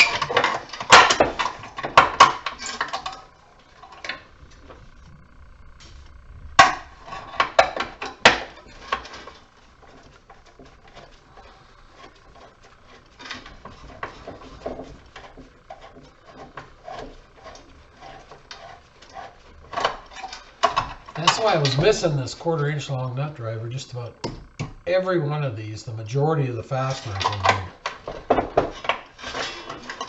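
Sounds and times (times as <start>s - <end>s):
small clicks and scrapes: 0.0s - 6.3s, 6.9s - 21.9s, 26.9s - 30.0s.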